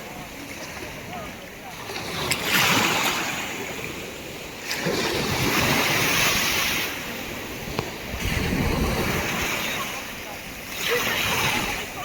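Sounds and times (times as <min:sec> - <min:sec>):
small waves washing onto shore: 0:00.0 - 0:12.0.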